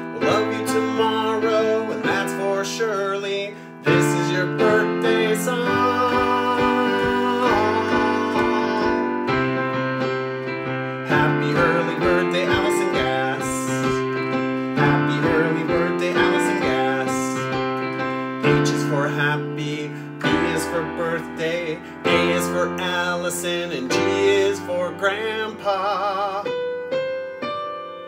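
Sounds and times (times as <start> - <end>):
man singing: 0.0 - 9.8, 10.6 - 26.8
electric keyboard chords: 0.0 - 28.0.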